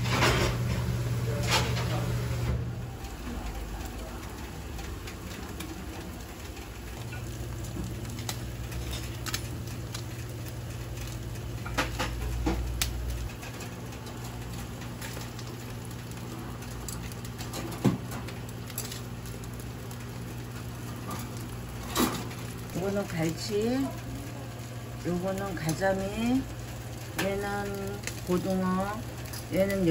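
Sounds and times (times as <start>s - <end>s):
grill humming: 0.0s - 29.9s
fish popping and ticking on grill: 3.0s - 29.9s.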